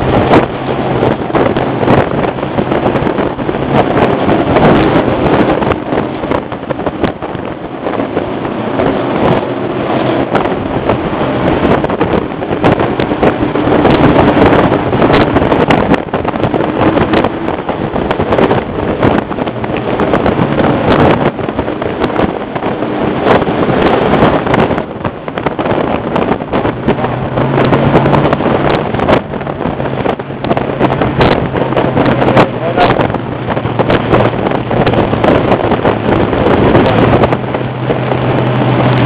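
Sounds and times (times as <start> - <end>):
race car engine crackling: 0.0 - 39.0
wind buffeting microphone: 0.0 - 39.0.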